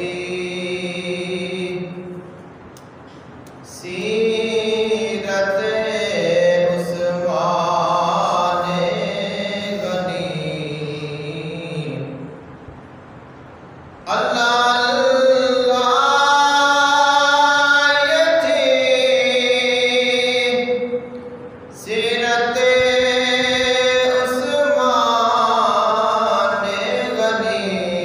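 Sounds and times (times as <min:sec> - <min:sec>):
man singing unaccompanied: 0:00.0 - 0:02.2, 0:03.6 - 0:12.4, 0:14.0 - 0:28.0.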